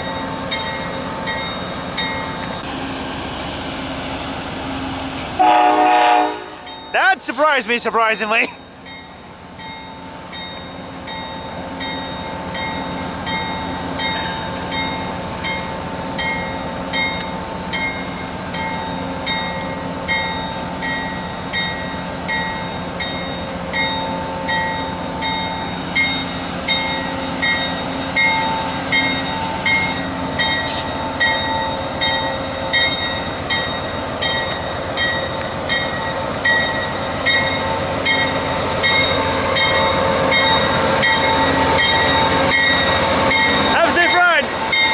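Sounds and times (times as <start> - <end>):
locomotive bell ringing: 0.0 - 2.5, 6.6 - 44.9
train running: 0.0 - 44.9.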